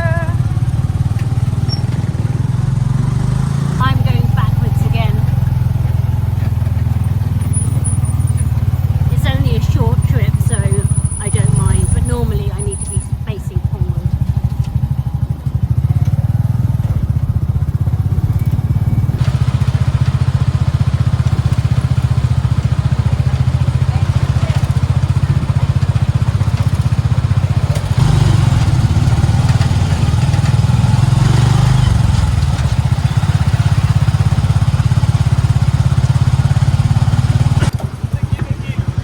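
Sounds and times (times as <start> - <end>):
motorcycle engine running: 0.0 - 39.0
road and wind noise: 0.0 - 39.0.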